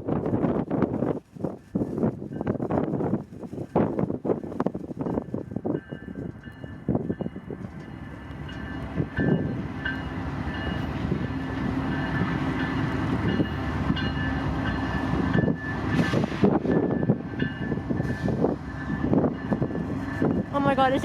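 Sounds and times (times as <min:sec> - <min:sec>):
diesel train engine rumble: 0:00.0 - 0:21.0.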